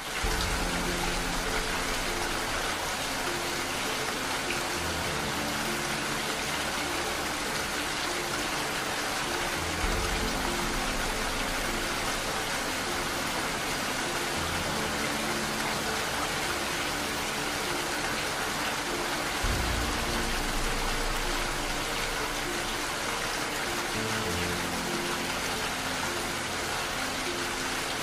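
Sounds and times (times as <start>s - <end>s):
soft slow music: 0.0s - 28.0s
steady rain: 0.0s - 28.0s.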